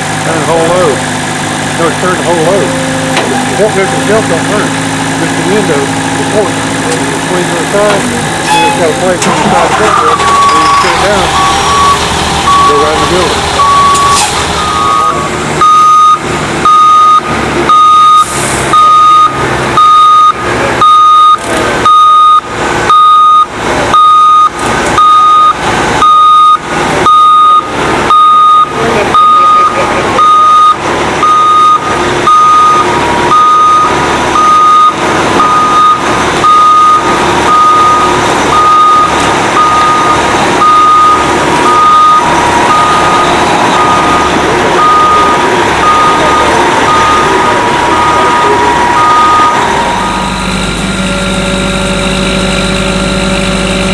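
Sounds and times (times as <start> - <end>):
forklift engine running: 0.0 - 53.9
forklift reversing alarm beeping: 1.8 - 53.9.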